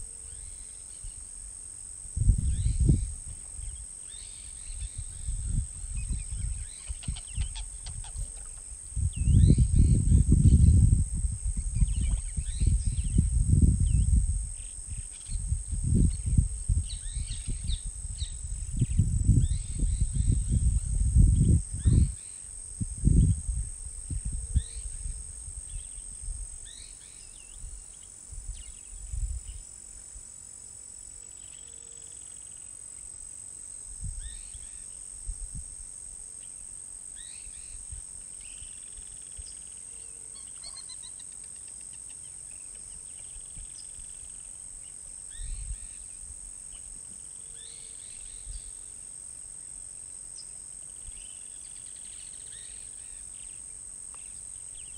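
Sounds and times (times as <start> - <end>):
insect trill: 0.0 - 54.9.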